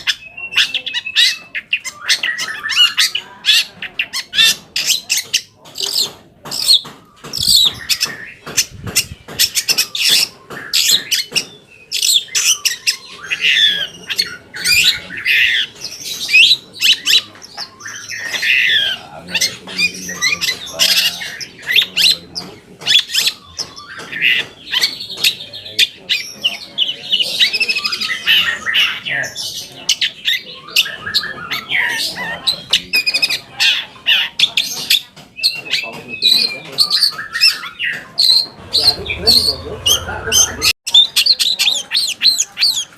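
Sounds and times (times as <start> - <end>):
shrike singing: 0.0 - 42.9.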